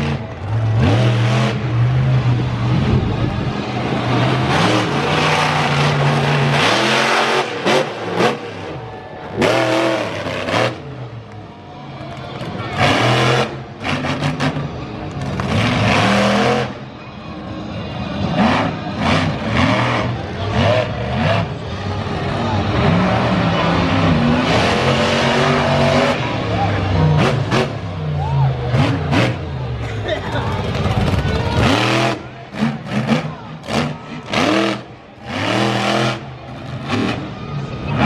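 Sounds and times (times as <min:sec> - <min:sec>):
truck engine revving: 0:00.0 - 0:38.0.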